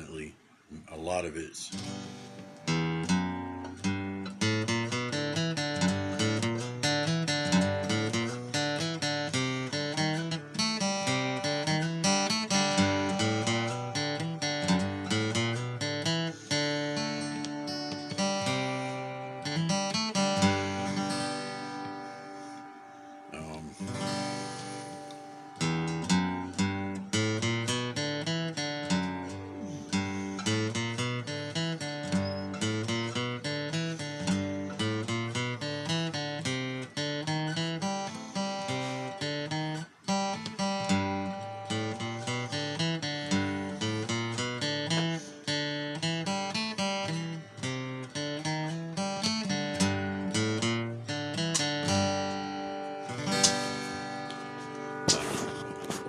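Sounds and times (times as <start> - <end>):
acoustic guitar fingerpicked: 0.0 - 56.0.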